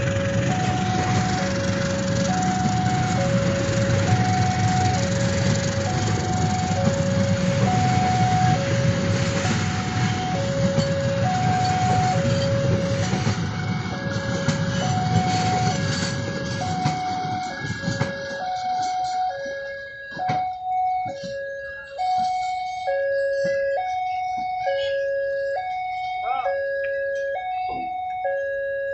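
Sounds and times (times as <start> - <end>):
train clacks: 0.0 - 24.6
passing train rumble: 0.0 - 28.5
higher-pitched two-tone alarm: 0.0 - 28.9
two-tone crossing alarm: 0.0 - 28.9.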